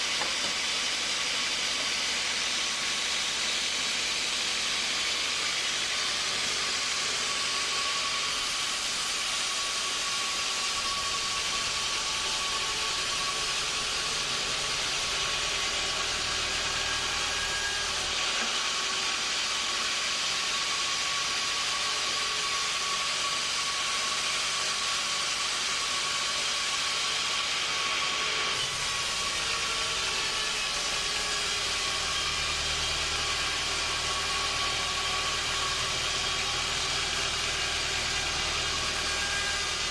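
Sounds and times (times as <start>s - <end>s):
sawmill machinery hiss and whine: 0.0s - 39.9s.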